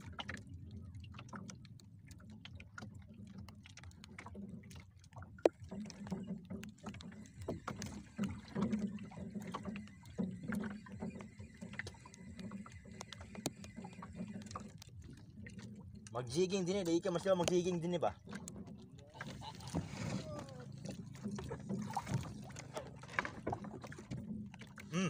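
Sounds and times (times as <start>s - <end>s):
water washing around hull: 0.0s - 25.0s.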